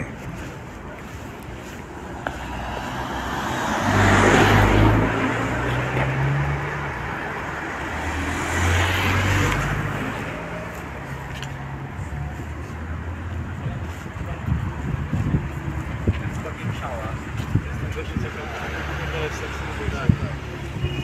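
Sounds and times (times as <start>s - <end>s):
cars driving past: 1.4s - 20.9s.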